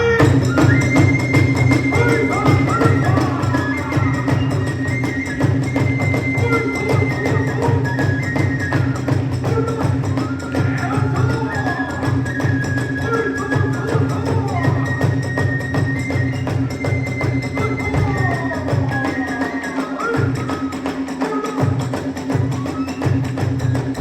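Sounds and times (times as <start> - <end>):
bamboo flute melody: 0.0 - 24.0
fast drum beats: 0.0 - 24.0.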